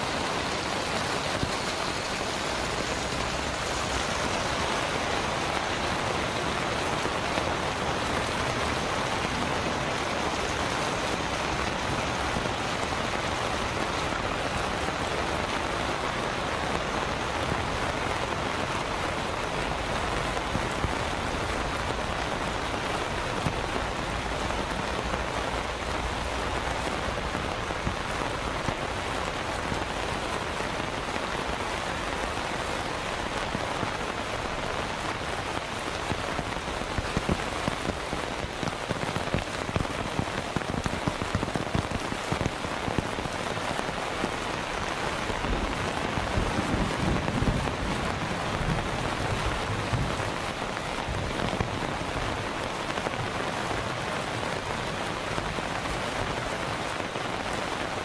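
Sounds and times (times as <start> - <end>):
heavy rain on water and paving: 0.0 - 58.0.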